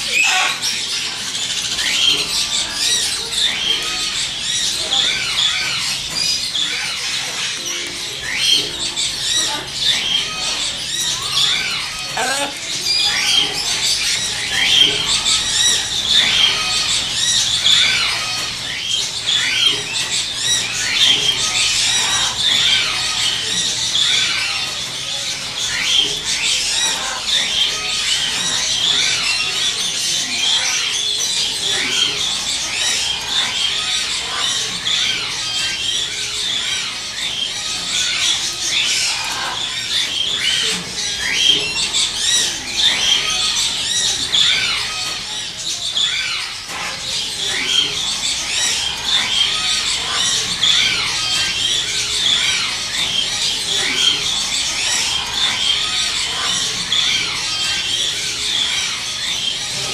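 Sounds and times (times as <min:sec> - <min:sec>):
parrots chirping and squawking: 0:00.0 - 0:59.9.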